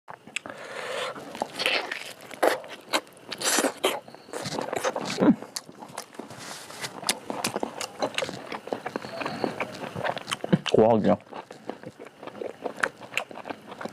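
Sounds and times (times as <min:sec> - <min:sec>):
person chewing wetly: 0:00.1 - 0:13.9.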